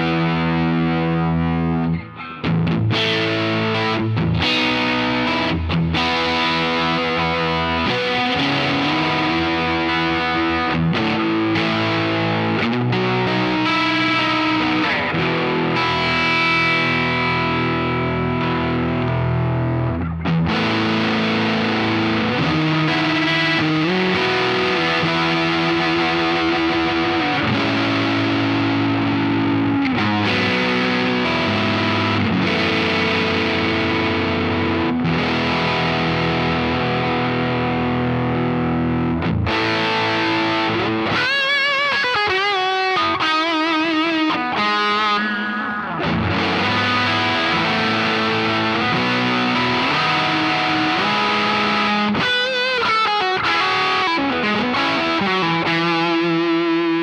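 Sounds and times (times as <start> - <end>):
distorted electric guitar chords: 0.0 - 57.0
electric guitar lead with vibrato: 0.0 - 57.0.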